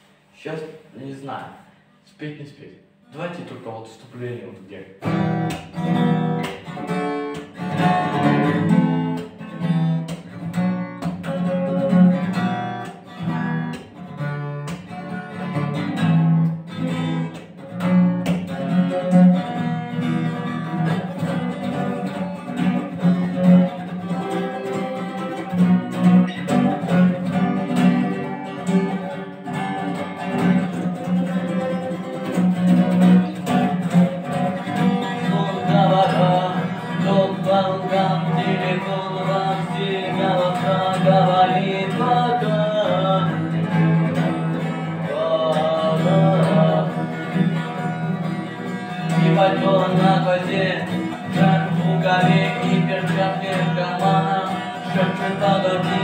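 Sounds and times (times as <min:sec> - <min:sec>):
acoustic guitar strumming: 0:04.5 - 0:56.0.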